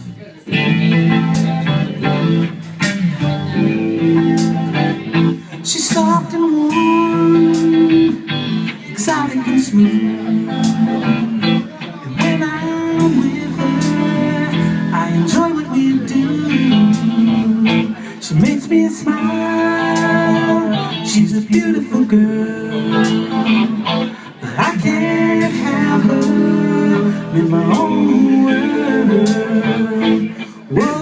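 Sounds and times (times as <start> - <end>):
blues band playing: 0.0 - 31.0
guitar bending notes: 0.0 - 31.0.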